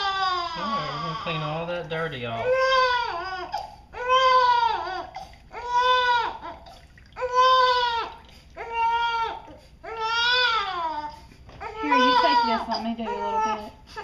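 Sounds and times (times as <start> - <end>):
newborn baby crying: 0.0 - 1.6, 2.3 - 14.0.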